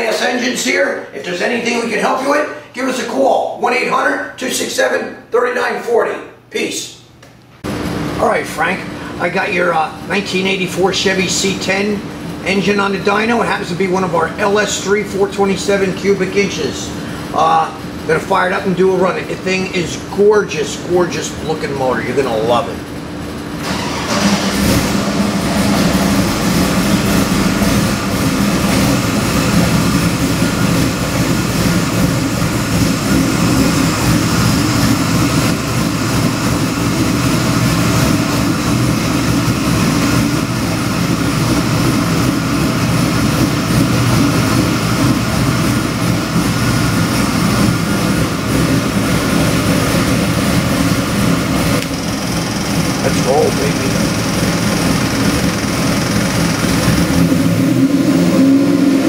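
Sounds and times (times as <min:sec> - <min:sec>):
engine idling on a dyno: 0:07.6 - 0:59.0.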